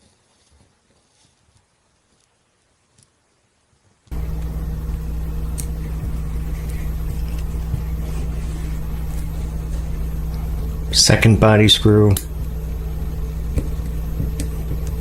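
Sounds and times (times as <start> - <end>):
low electrical hum: 2.4 - 15.0.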